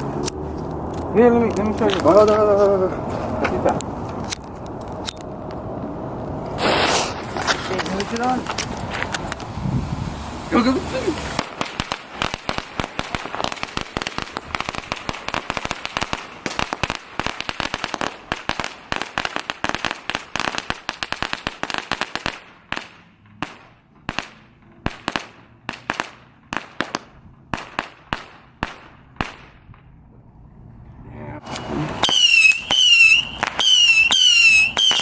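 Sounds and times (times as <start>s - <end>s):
firecrackers banging: 0.0s - 30.1s, 31.4s - 35.0s.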